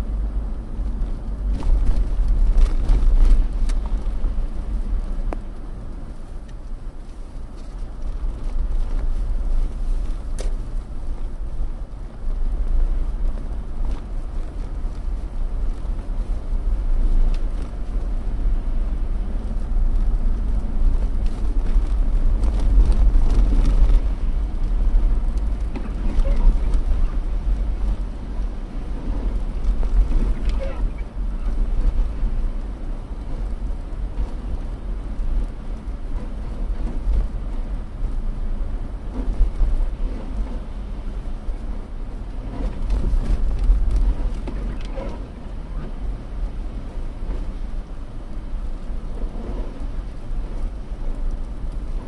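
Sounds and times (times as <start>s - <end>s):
car road rumble: 0.0s - 52.0s
tyres knocking and crackling on ruts: 0.0s - 52.0s.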